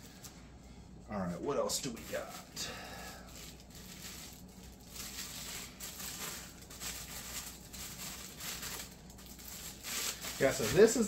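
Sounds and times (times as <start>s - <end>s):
packaging rustling and crinkling: 1.8s - 11.0s.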